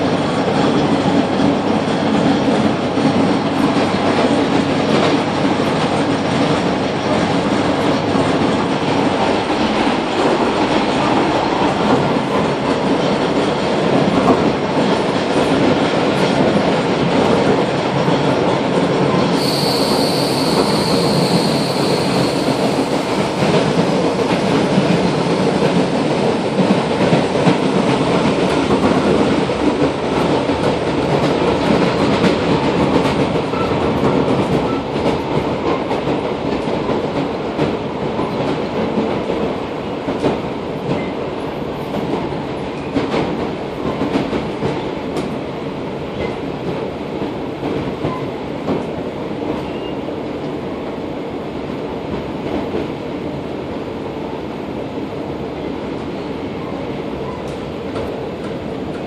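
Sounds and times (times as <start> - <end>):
train wheels and carriage rumble: 0.0 - 59.0.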